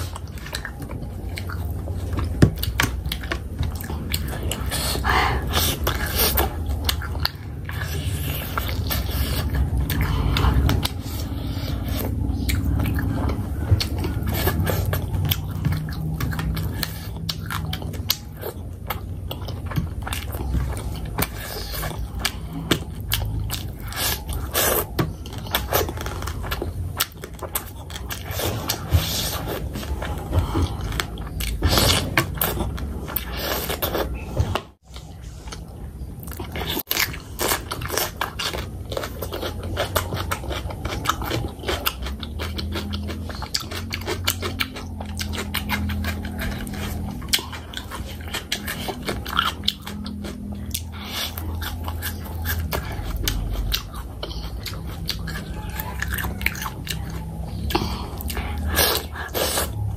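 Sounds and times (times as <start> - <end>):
wet chewing smacks: 0.0 - 59.9.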